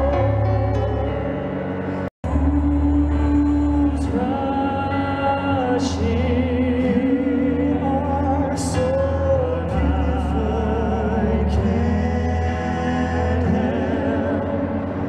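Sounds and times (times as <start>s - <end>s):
electronic keyboard low notes: 0.0s - 15.0s
male vocal group singing harmony: 2.3s - 15.0s.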